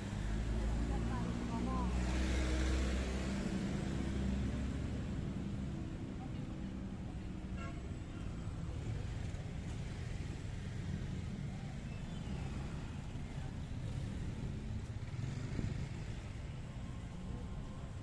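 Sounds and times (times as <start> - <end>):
cars and scooters passing: 0.0 - 18.0.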